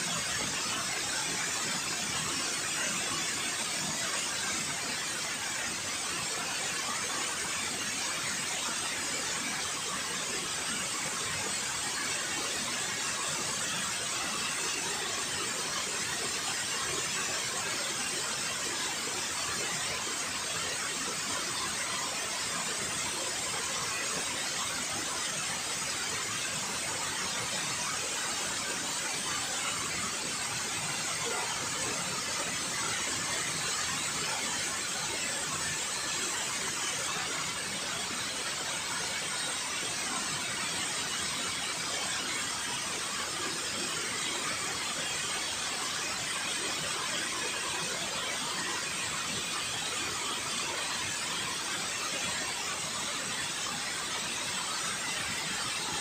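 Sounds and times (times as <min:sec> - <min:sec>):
water rushing over dam spillway: 0:00.0 - 0:56.0.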